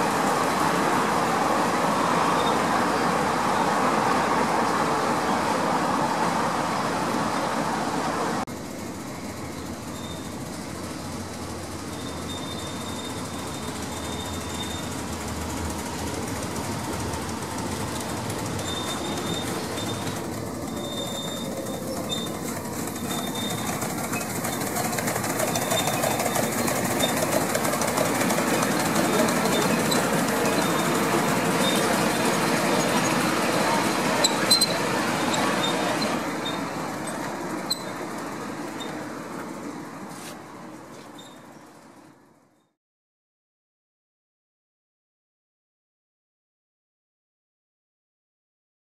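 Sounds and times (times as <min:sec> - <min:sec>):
miniature steam train running: 0:00.0 - 0:42.6.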